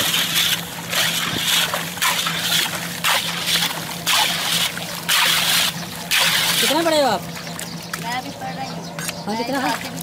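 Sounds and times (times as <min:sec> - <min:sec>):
muddy water sloshing in metal basin: 0:00.0 - 0:08.2, 0:09.5 - 0:10.0.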